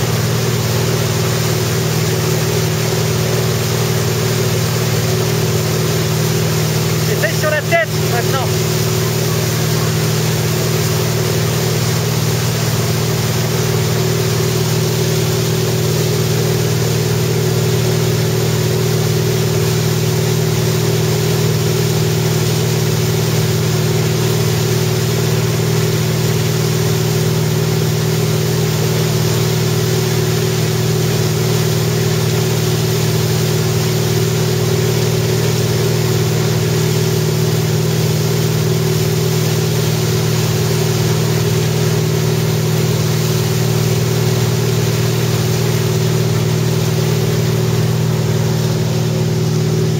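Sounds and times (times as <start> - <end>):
boat engine droning: 0.0 - 49.9
churning wake rushing: 0.0 - 49.9.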